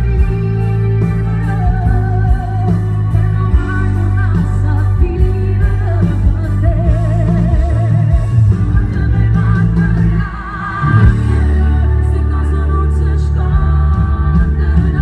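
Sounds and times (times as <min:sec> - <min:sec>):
music with heavy bass: 0:00.0 - 0:15.0
woman singing into a microphone: 0:00.0 - 0:15.0.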